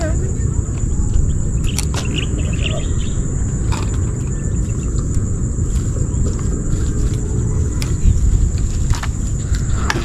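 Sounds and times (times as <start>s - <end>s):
high-pitched insect trill: 0.0s - 10.0s
wind buffeting microphone: 0.0s - 10.0s.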